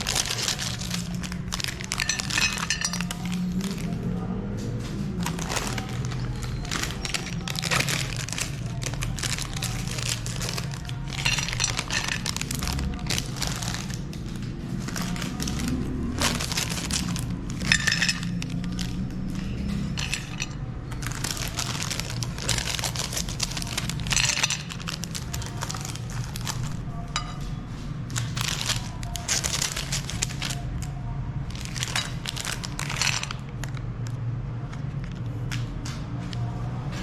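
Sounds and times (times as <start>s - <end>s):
grinder crunching frozen bars: 0.0s - 4.1s, 5.0s - 26.9s, 28.1s - 35.2s.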